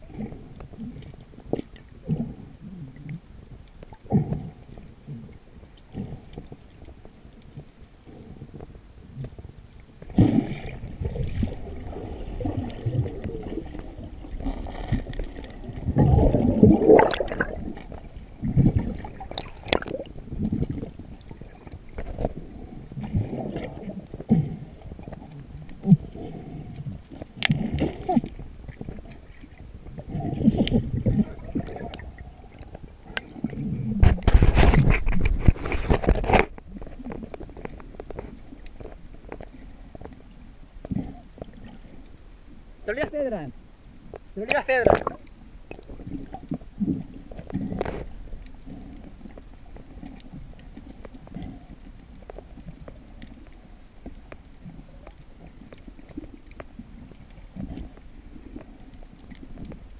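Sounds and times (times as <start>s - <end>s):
underwater bubbling and gurgling: 0.0s - 59.9s.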